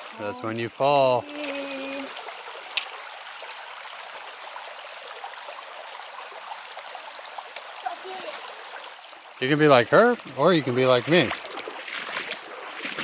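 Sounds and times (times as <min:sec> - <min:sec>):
creek water babbling: 0:00.0 - 0:13.0.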